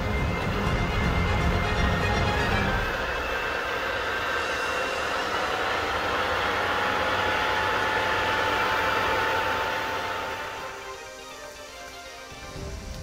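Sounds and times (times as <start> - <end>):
blower whine: 0.0 - 13.0
forge fire roaring: 0.0 - 13.0.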